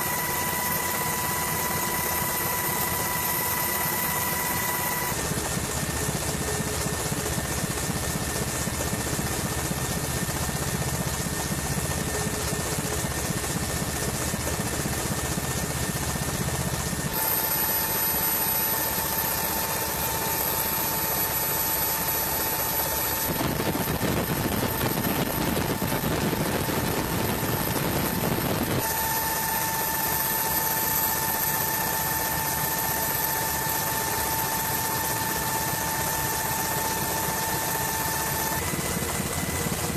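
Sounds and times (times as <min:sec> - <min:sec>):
aircraft engine noise: 0:00.0 - 0:39.9
high steady whine: 0:00.0 - 0:39.9.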